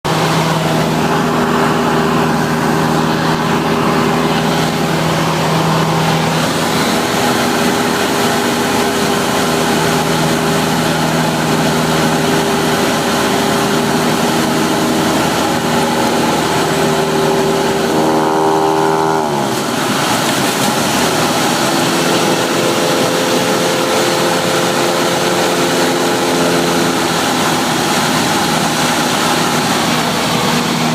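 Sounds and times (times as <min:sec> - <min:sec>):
propeller plane engine in cabin: 0:00.0 - 0:30.9.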